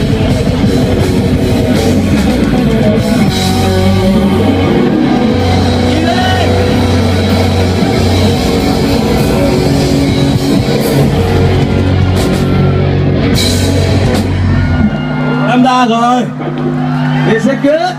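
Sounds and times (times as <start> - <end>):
live rock band: 0.0 - 17.9.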